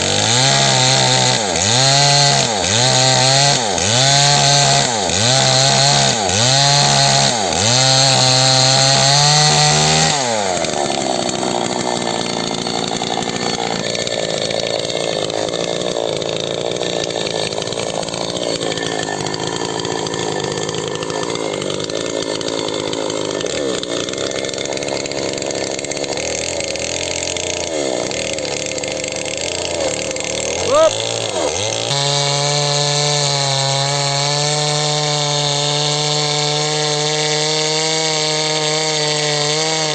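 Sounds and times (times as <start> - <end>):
small chainsaw engine running: 0.0 - 39.9.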